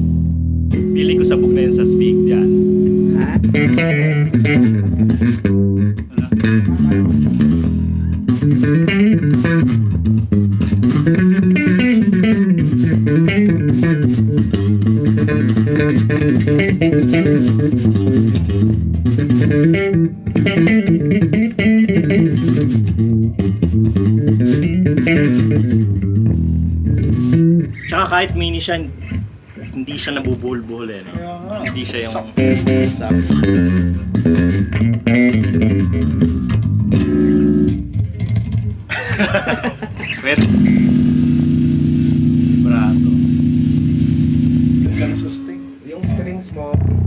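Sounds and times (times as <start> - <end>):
electric bass notes: 0.0 - 30.7, 31.5 - 47.0.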